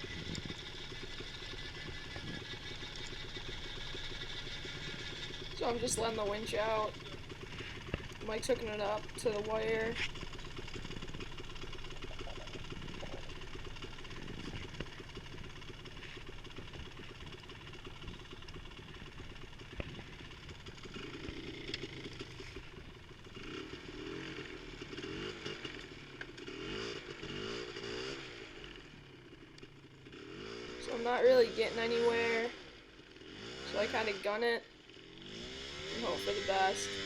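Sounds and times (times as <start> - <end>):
atv engine revving under load: 0.0 - 37.0.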